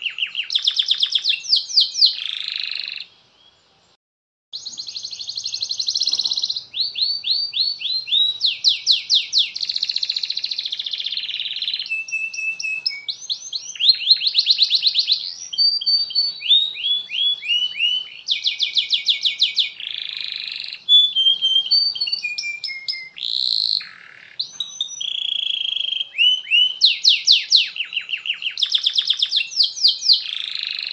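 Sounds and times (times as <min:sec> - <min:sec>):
canary singing: 0:00.0 - 0:03.3, 0:04.6 - 0:30.9.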